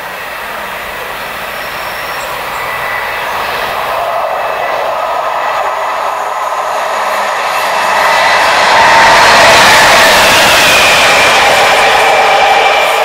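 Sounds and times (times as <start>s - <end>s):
diesel train approaching: 0.0s - 13.0s
thin high steady whine: 0.0s - 13.0s.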